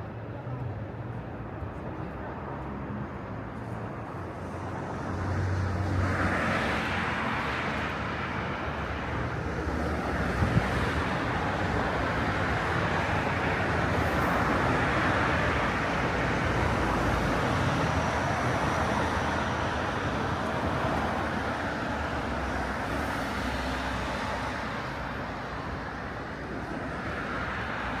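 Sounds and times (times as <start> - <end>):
street bustle: 0.0 - 28.0.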